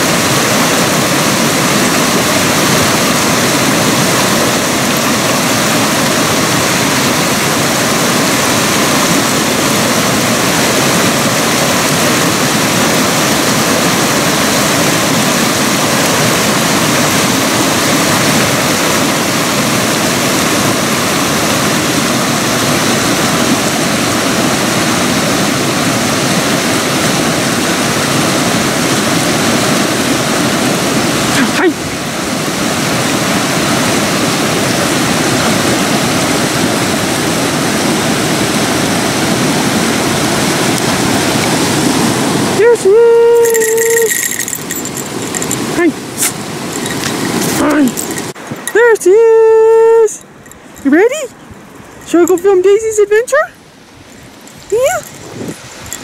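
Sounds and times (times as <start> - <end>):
creek rushing over rocks: 0.0 - 56.0.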